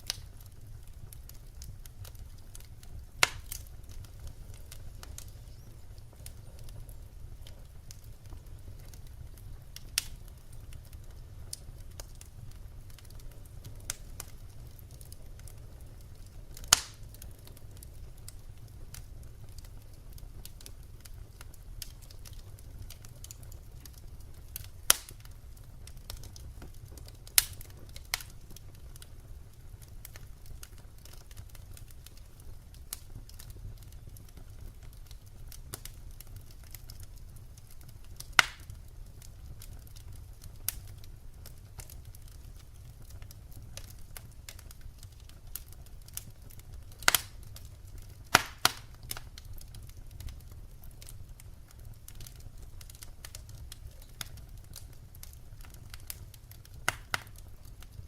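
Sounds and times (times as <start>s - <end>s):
fire crackling: 0.0s - 58.0s
sharp pops of burning logs: 0.0s - 58.0s
wood fire rumbling: 0.0s - 58.0s.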